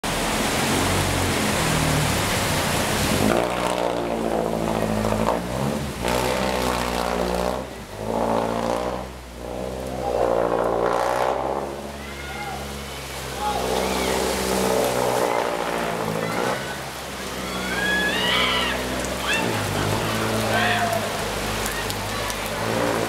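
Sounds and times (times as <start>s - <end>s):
water and rain hissing: 0.0s - 23.0s.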